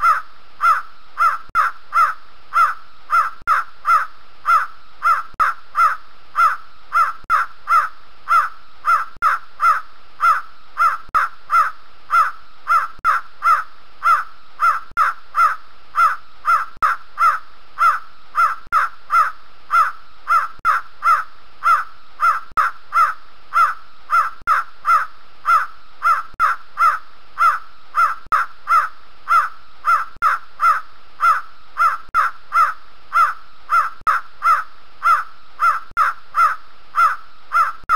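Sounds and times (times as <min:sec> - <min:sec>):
francolin calling: 0:00.0 - 0:37.9.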